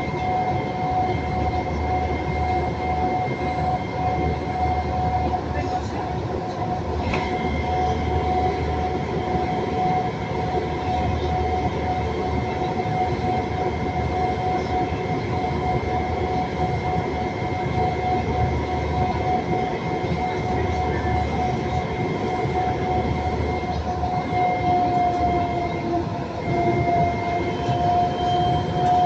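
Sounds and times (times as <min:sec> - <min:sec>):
high train whine: 0:00.0 - 0:29.0
metro train rumble: 0:00.0 - 0:29.0.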